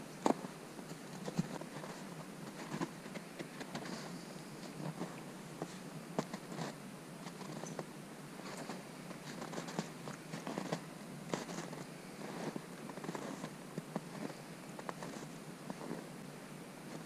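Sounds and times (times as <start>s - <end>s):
footsteps crunching in snow: 0.2s - 16.1s.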